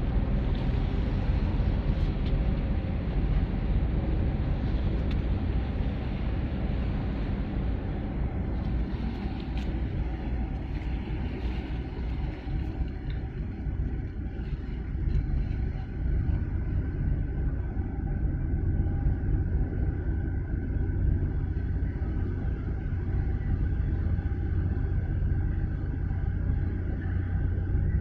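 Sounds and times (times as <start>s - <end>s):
deep ship engine rumble: 0.0s - 28.0s.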